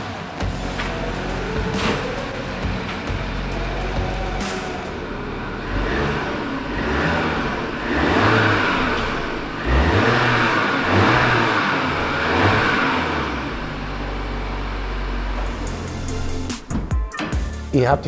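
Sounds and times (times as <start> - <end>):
car engine revving: 0.0 - 17.7.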